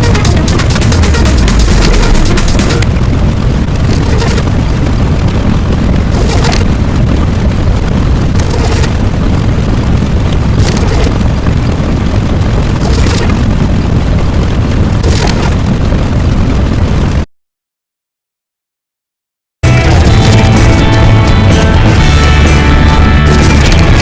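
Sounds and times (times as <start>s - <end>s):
deep explosion rumble: 0.0s - 17.2s, 19.6s - 24.0s.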